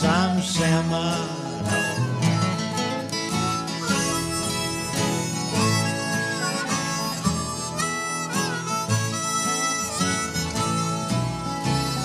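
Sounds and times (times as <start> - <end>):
country music accompaniment: 0.0 - 12.0
harmonica playing lead: 1.1 - 12.0.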